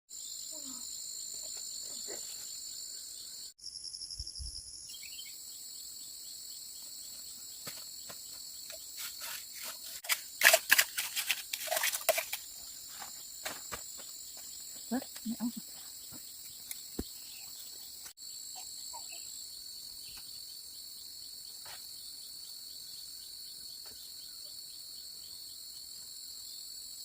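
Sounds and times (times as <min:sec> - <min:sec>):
insects droning: 0:00.1 - 0:27.0
pulsing insect call: 0:00.2 - 0:26.8.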